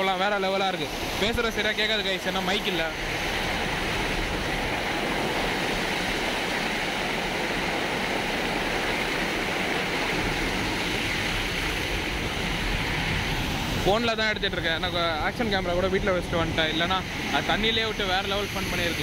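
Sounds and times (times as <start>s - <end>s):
water rushing over dam spillway: 0.0s - 19.0s.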